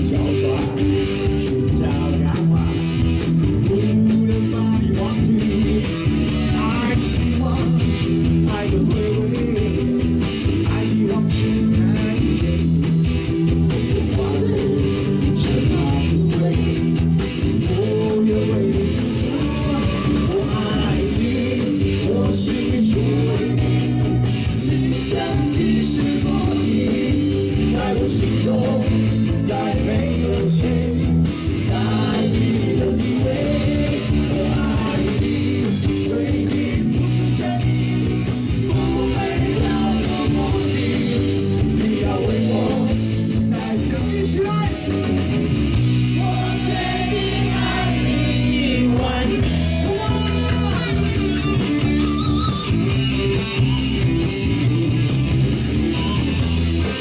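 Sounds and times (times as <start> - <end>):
live rock band playing a ballad: 0.0 - 57.0.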